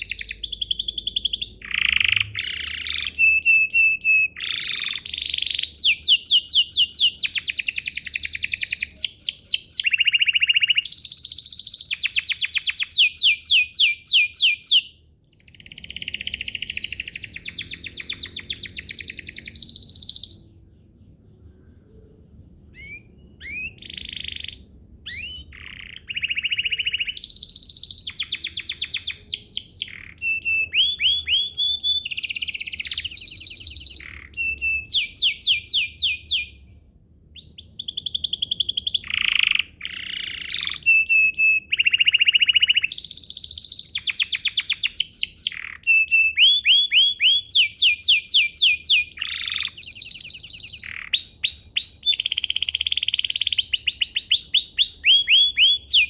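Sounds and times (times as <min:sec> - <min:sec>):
canary singing: 0:00.0 - 0:36.7, 0:37.4 - 0:56.0.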